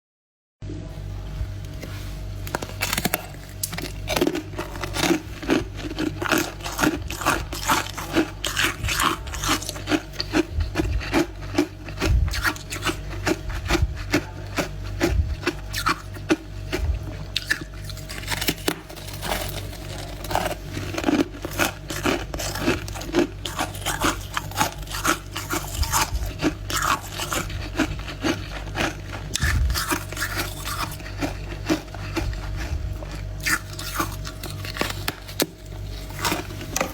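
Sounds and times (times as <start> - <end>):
steady low hum: 0.6 - 36.9
frost being crunched and chewed: 2.4 - 36.9.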